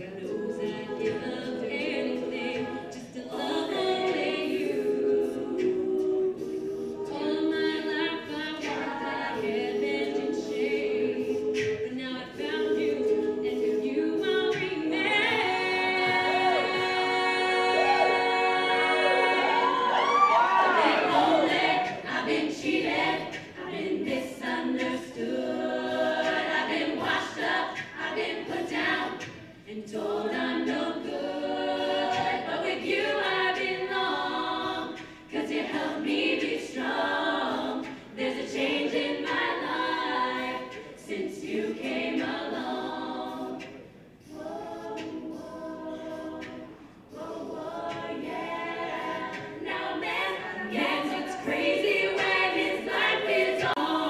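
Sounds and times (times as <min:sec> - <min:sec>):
female group singing in harmony: 0:00.0 - 0:54.0.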